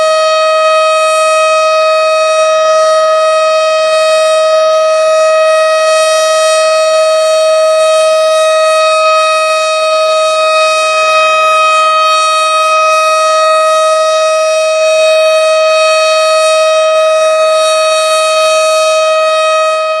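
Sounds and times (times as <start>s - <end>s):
siren steady tone: 0.0s - 20.0s.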